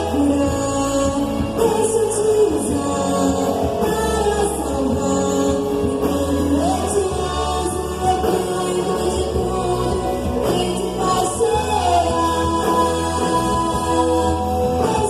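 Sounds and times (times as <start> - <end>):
band playing gospel music: 0.0 - 15.0
steady bass line: 0.0 - 15.0
voices singing together: 0.0 - 15.0.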